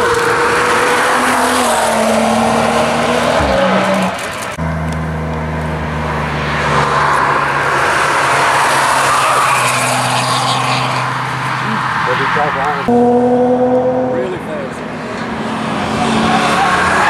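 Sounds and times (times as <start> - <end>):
car engine droning: 0.0 - 17.0
car engine passing: 0.0 - 17.0.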